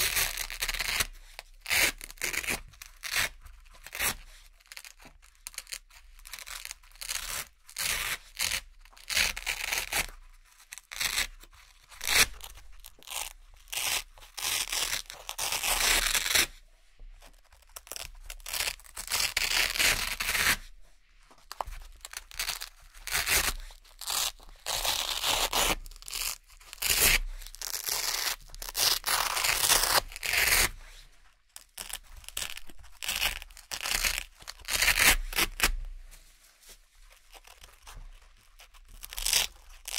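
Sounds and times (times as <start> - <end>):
velcro patches ripping off: 0.0 - 16.6, 17.3 - 20.7, 21.4 - 31.0, 31.6 - 39.9.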